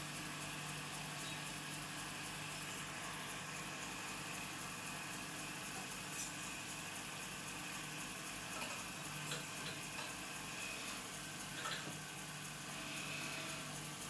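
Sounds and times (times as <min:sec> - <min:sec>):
lathe humming: 0:00.0 - 0:14.0.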